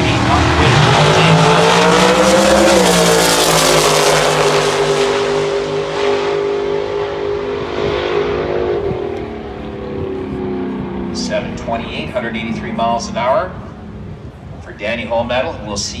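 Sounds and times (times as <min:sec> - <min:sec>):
dragster engine at full throttle: 0:00.0 - 0:15.5.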